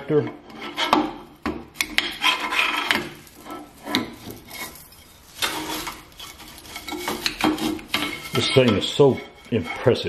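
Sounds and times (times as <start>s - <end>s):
metal chips scraping and rattling: 1.8s - 10.0s.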